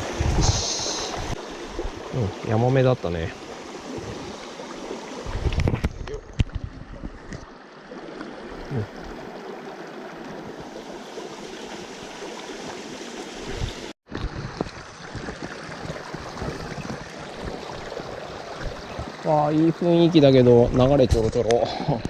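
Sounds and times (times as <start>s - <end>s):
stream running over rocks: 0.0s - 22.0s.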